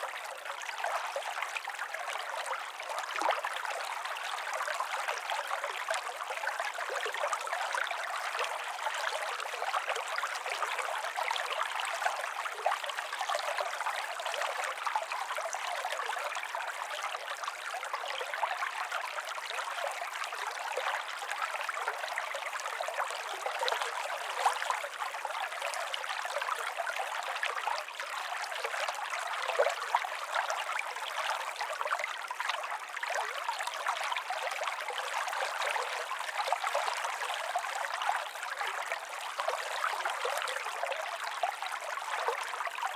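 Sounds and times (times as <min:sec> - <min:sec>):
small stream trickling: 0:00.0 - 0:42.9.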